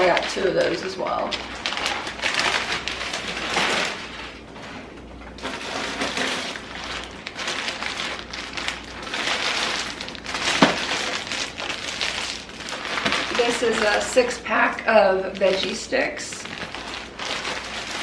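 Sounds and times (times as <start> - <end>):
plastic snack bags crinkling: 0.0 - 4.6, 5.3 - 18.0.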